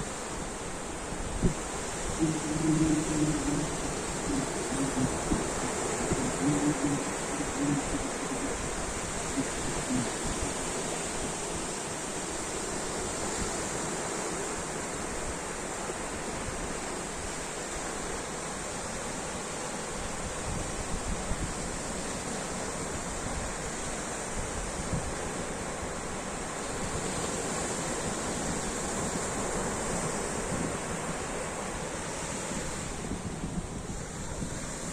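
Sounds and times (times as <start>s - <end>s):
ocean waves washing in: 0.0s - 34.9s.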